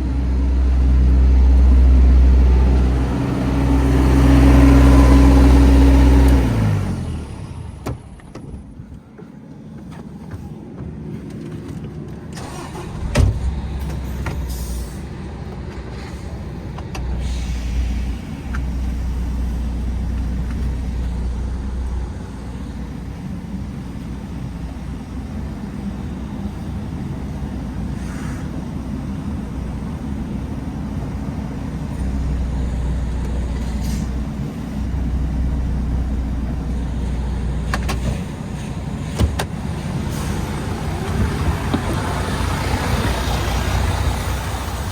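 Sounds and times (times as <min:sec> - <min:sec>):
truck diesel engine droning: 0:00.0 - 0:44.9.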